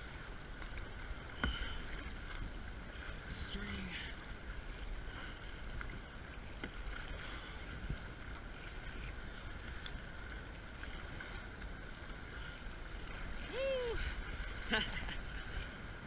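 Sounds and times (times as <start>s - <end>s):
water splashing against kayak: 0.0s - 16.0s.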